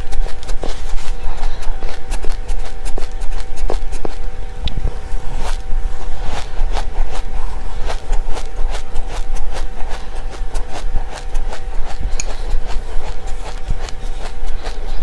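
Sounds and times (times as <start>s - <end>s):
crunchy seeds being chewed: 0.0s - 15.0s
steady low hum: 0.0s - 15.0s.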